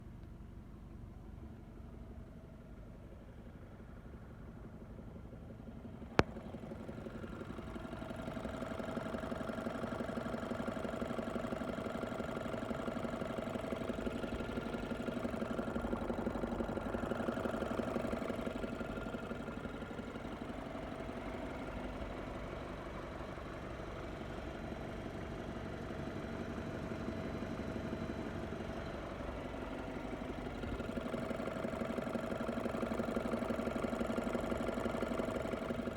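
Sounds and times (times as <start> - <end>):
car engine idling with knock: 3.4 - 35.9.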